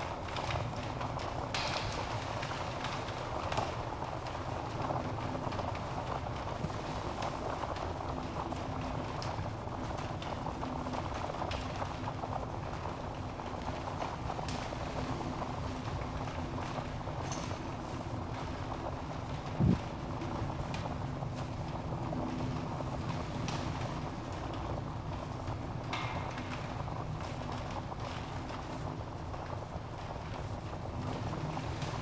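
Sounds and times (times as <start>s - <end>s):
burning wood crackling and popping: 0.1s - 32.0s.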